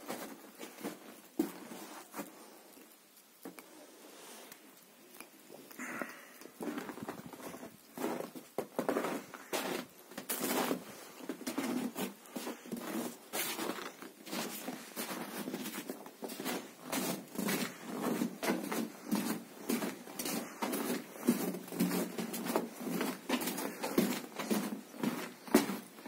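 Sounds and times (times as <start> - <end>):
footsteps crunching through snow: 0.0 - 2.7, 5.8 - 26.0.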